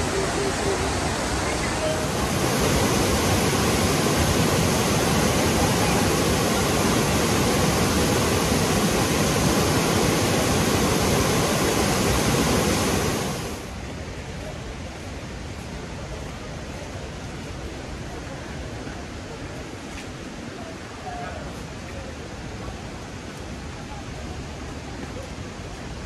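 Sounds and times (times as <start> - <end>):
fountain water rushing and splashing: 0.0 - 26.0.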